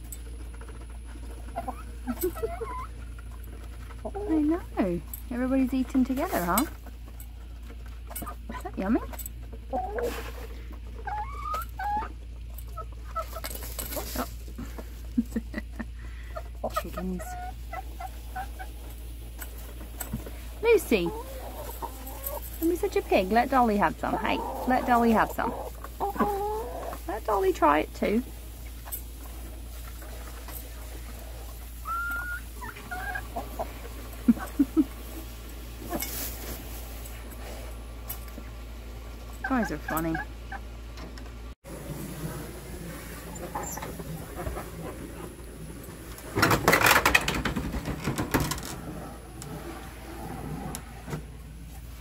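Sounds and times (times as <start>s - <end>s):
rustle: 0.0s - 40.1s, 41.0s - 52.0s
hens clucking: 0.0s - 41.3s, 42.1s - 48.4s.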